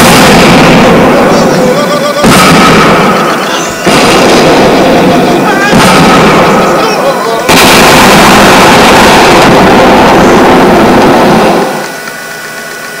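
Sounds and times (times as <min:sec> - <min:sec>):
rumbling explosion: 0:00.0 - 0:11.8.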